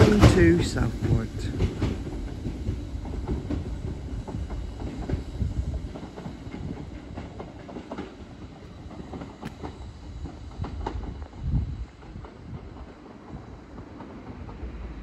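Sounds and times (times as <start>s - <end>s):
electric train rumbling: 0.0s - 15.0s
wheels clicking over rail joints: 0.0s - 15.0s.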